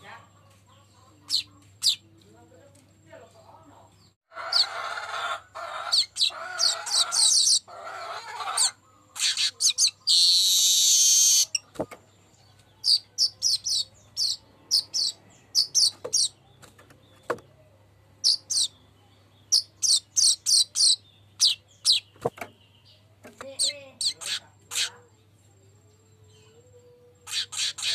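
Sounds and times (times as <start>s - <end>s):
weaver bird singing: 0.0s - 4.7s, 5.8s - 7.7s, 8.5s - 17.6s, 18.2s - 25.2s, 26.0s - 27.9s.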